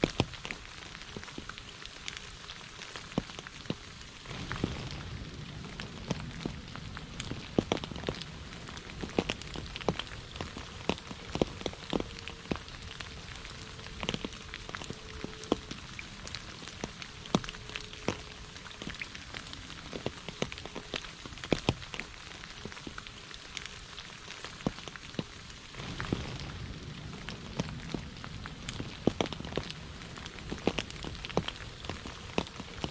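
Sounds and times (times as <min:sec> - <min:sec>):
heavy rain hissing: 0:00.0 - 0:32.9
raindrops ticking on surface: 0:00.0 - 0:32.9.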